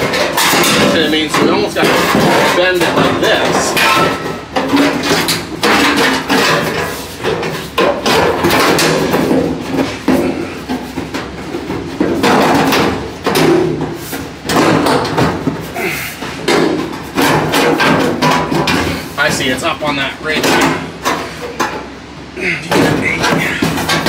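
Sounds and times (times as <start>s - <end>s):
metal panel clanking and scraping: 0.0s - 22.0s.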